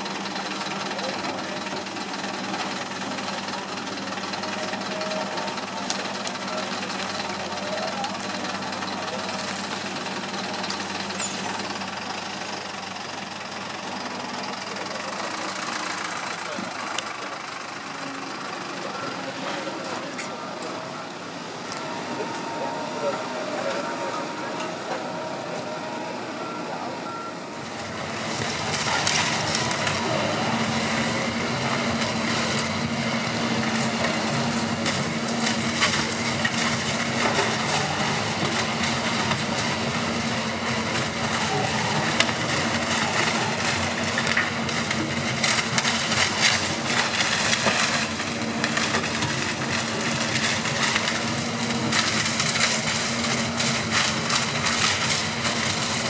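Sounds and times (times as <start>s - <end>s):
splintering wood crackling: 0.0s - 20.7s, 27.6s - 56.0s
diesel machinery drone: 0.0s - 56.0s
material handler driving: 0.0s - 56.0s
wood shredder grinding pallets: 0.0s - 56.0s.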